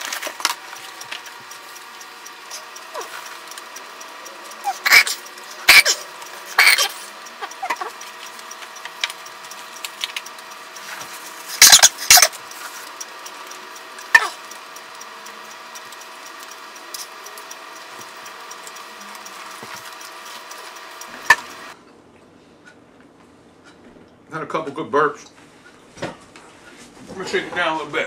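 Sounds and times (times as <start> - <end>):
steady hum with tones: 0.0 - 28.0.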